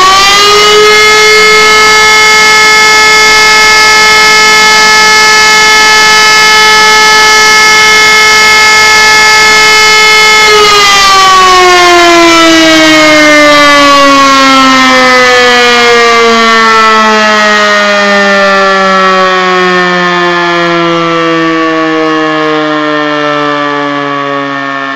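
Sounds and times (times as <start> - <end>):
motor siren winding down: 0.0 - 24.9.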